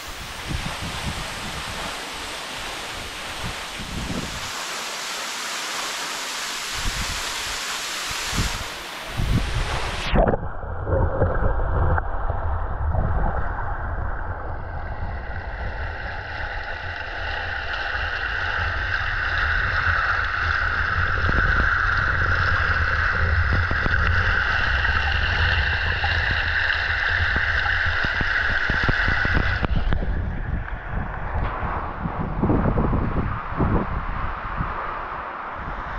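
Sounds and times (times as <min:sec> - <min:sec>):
steady water hiss: 0:00.0 - 0:10.3, 0:13.6 - 0:35.9
underwater waterfall rumble: 0:00.0 - 0:35.9.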